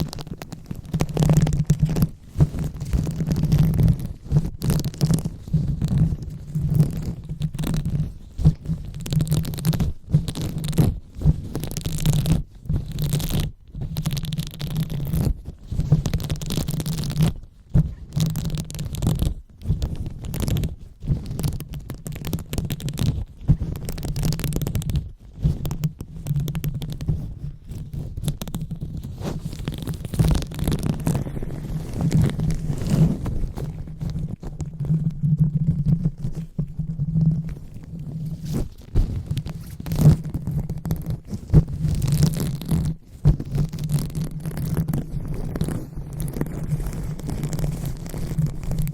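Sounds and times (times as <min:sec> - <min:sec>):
hands rubbing on microphone: 0:00.0 - 0:48.9.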